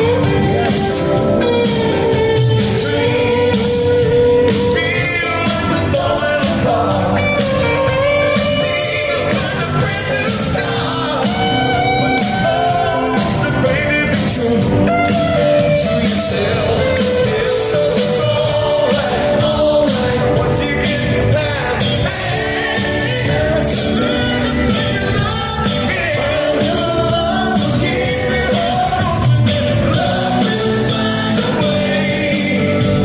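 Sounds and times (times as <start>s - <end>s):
bending melodic lead line: 0.0s - 33.0s
live rock band playing: 0.0s - 33.0s.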